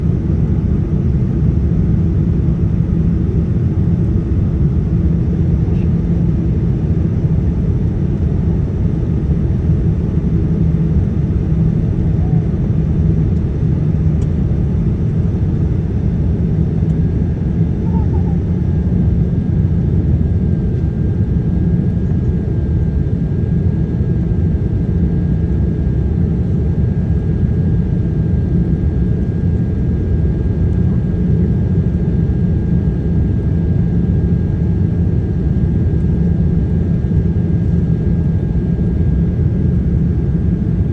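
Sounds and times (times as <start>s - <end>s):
airliner engine rumble: 0.0s - 40.9s.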